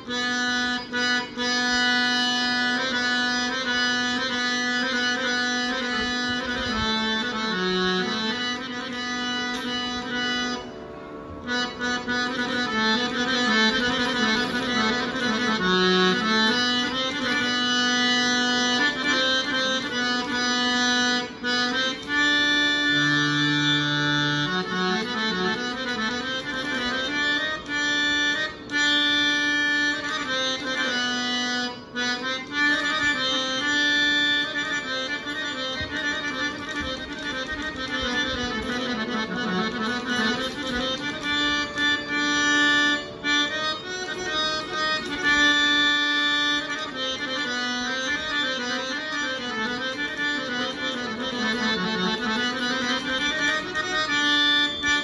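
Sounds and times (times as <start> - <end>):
harmonium melody: 0.0 - 55.0.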